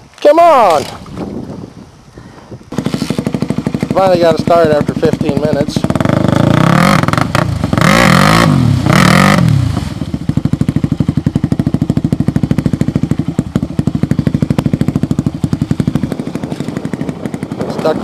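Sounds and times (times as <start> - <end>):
dirt bike engine revving: 2.7 - 18.0.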